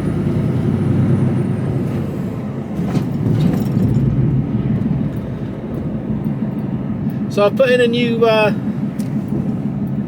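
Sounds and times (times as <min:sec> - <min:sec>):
lorry engine and road noise: 0:00.0 - 0:10.0.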